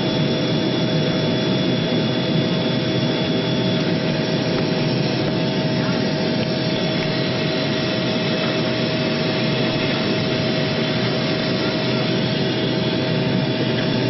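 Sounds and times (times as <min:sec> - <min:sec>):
jet engine drone in cabin: 0:00.0 - 0:14.0.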